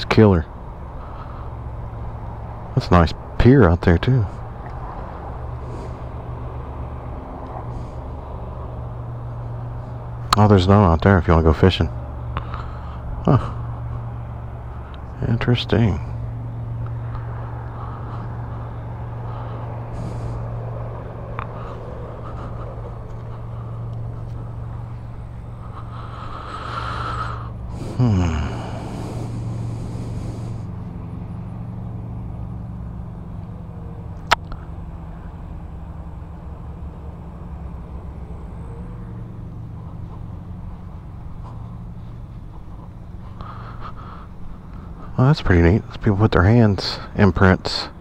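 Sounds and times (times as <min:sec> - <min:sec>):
low traffic hum: 0:00.0 - 0:48.0
vehicle passing by: 0:00.0 - 0:48.0.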